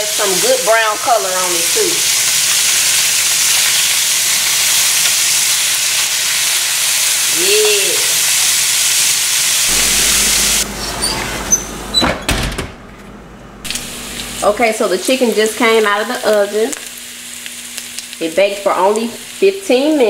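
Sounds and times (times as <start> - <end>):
chicken sizzling in oil: 0.0 - 10.6, 13.6 - 20.0.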